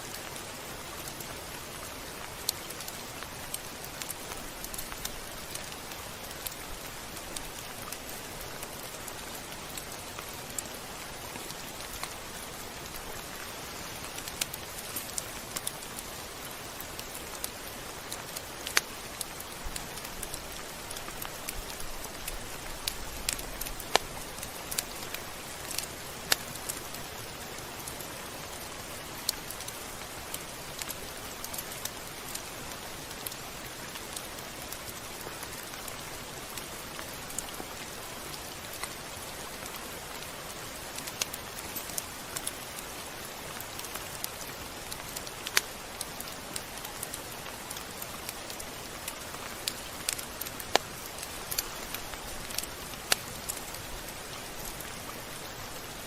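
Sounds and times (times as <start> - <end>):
rain drops ticking: 0.0 - 56.0
rain falling: 0.0 - 56.0.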